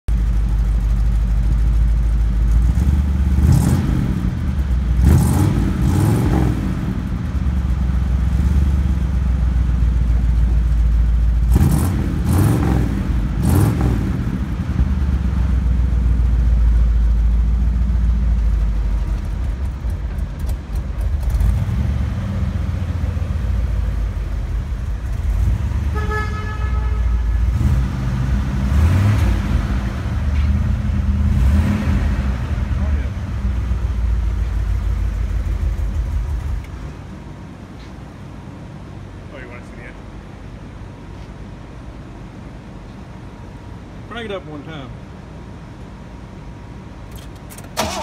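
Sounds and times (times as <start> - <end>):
car engine idling and revving: 0.1 - 48.0.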